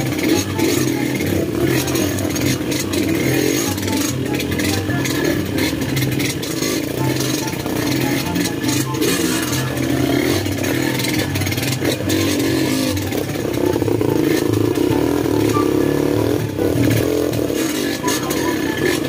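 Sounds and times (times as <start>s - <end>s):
dirt bike engine revving: 0.0s - 19.0s
rattling and clatter: 0.0s - 19.0s.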